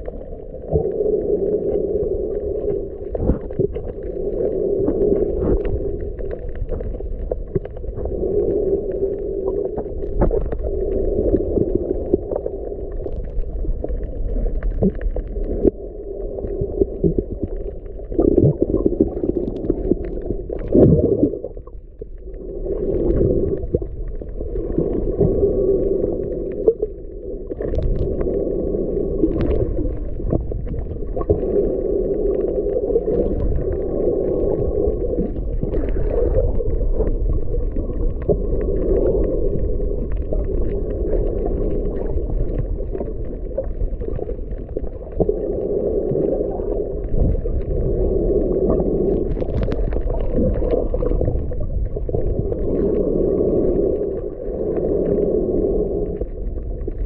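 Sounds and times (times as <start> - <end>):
underwater rumbling wash: 0.0 - 57.0.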